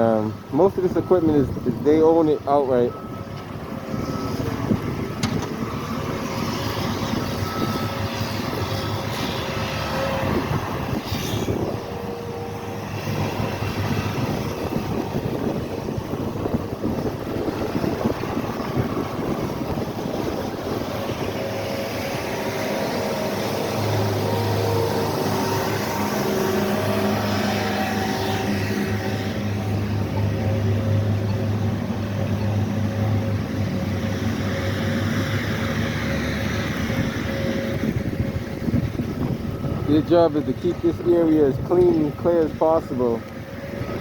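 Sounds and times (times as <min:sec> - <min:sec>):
snow removal engines running: 0:00.0 - 0:44.0.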